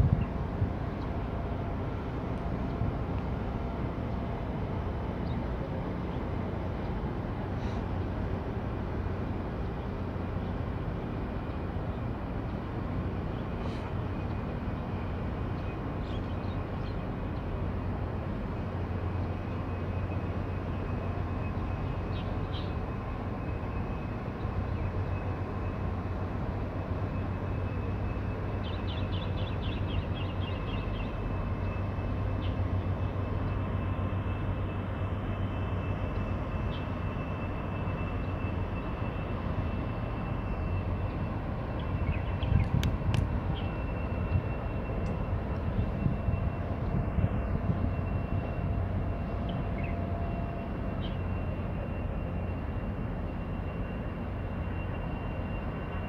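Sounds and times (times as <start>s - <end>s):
ship engine drone: 0.0s - 56.0s.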